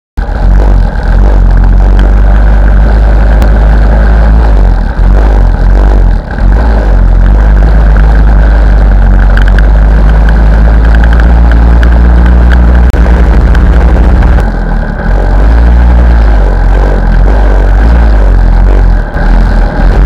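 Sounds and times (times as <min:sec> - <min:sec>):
small motorcycle engines running: 0:00.2 - 0:20.0
wind rumble on microphone: 0:00.2 - 0:20.0.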